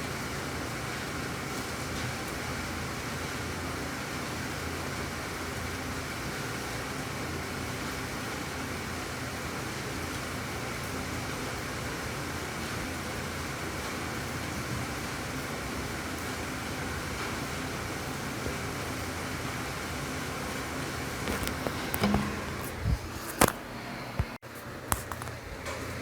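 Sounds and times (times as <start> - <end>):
steady rain falling: 0.0 - 22.5.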